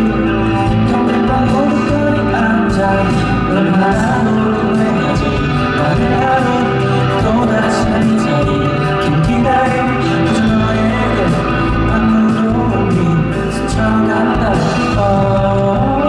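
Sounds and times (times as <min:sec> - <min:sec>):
live band playing pop song: 0:00.0 - 0:16.0
person singing: 0:00.0 - 0:16.0.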